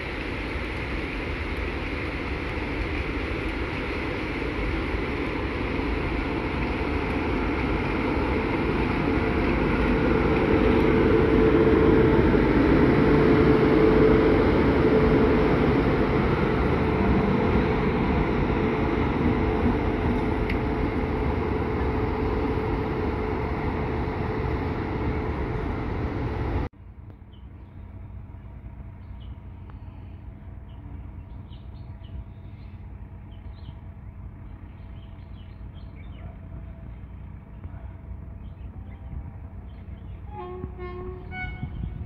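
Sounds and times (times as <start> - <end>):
train wheels rumbling on rail: 0.0 - 26.8, 27.4 - 42.0.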